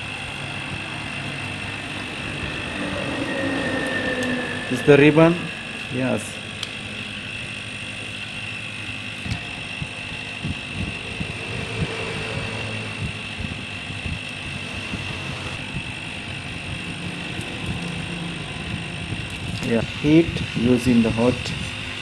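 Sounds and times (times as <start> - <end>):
hot air station whining: 0.0 - 22.0.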